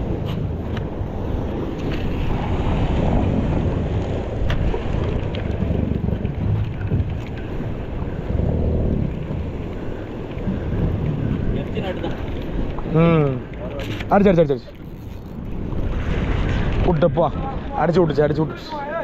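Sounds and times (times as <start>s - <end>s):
choppy sea wash: 0.0s - 19.0s
wind buffeting microphone: 0.0s - 19.0s.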